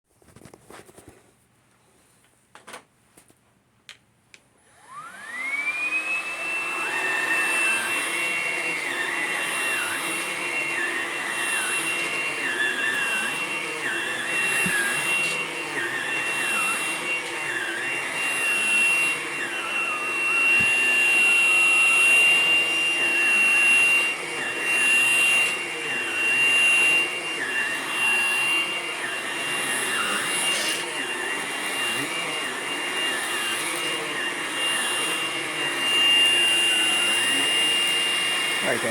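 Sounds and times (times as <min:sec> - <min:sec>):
cordless vacuum motor whining: 0:04.6 - 0:38.9.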